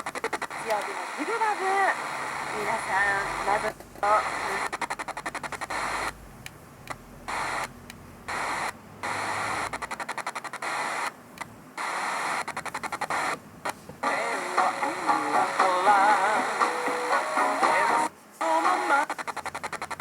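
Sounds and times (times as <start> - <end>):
radio static hiss: 0.0 - 6.3, 6.9 - 20.0.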